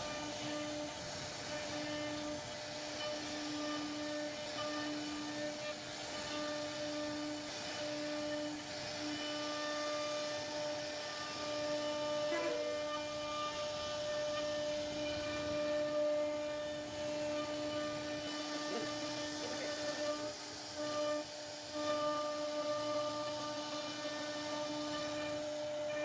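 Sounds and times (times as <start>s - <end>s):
hiss of wood cutting: 0.0s - 26.0s
router spindle whining: 0.0s - 26.0s.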